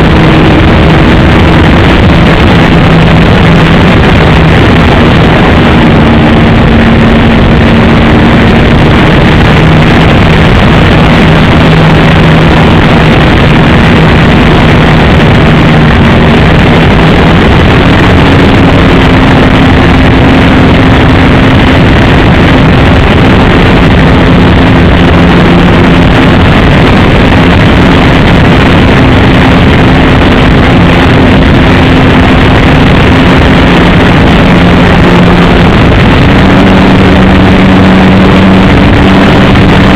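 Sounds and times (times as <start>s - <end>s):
model airplane engine droning: 0.0s - 39.9s.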